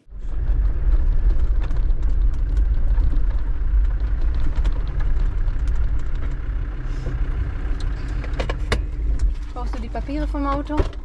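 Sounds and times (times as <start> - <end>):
car engine and road rumble: 0.0 - 11.0
faint rattles: 0.0 - 11.0.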